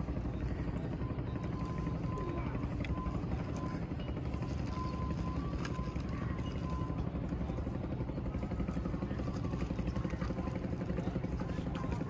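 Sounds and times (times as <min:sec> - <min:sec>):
engine running with pulsing: 0:00.0 - 0:12.0.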